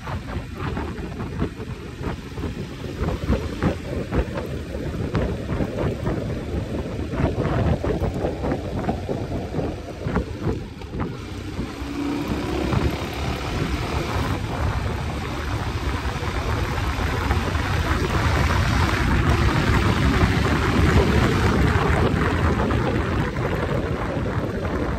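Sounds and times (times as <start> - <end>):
motorcycle engine running: 0.0 - 24.9
wind buffeting microphone: 0.0 - 24.9.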